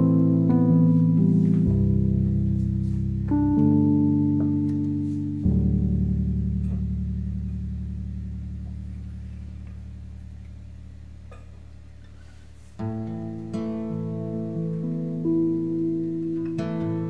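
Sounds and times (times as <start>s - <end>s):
low piano chord ringing: 0.0s - 12.1s, 12.8s - 17.0s.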